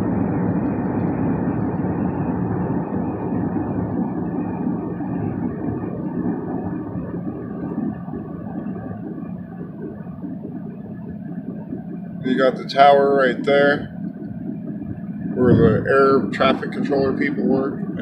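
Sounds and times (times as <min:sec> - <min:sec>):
car road and engine drone: 0:00.0 - 0:18.0.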